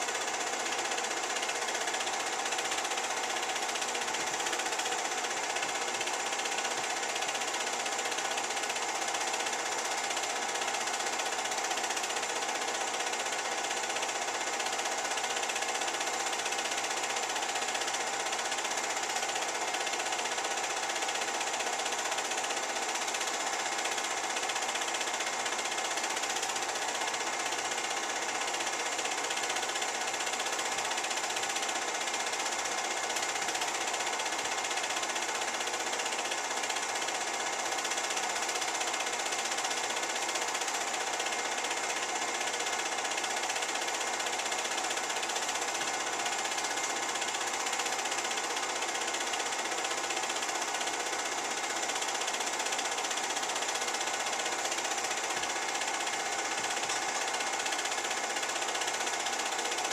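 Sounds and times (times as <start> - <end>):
film projector clatter: 0.0 - 59.9
projector motor hum: 0.0 - 59.9.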